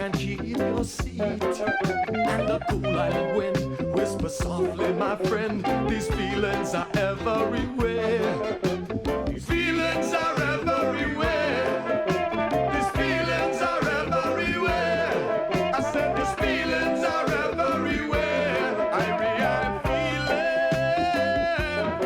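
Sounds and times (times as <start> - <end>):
instrumental reggae music: 0.0 - 22.0.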